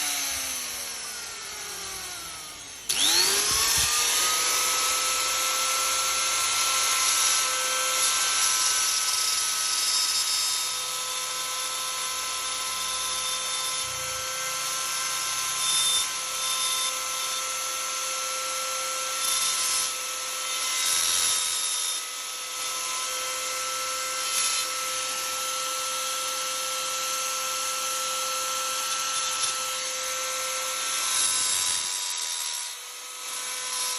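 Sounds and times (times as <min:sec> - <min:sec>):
electric power tool whining: 0:00.0 - 0:33.9
power tool cutting wood: 0:00.0 - 0:33.9.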